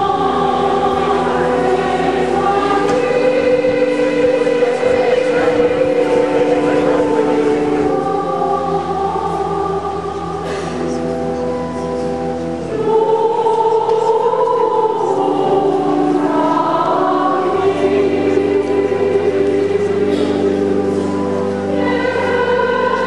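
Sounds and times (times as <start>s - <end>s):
choir singing church music: 0.0s - 23.0s.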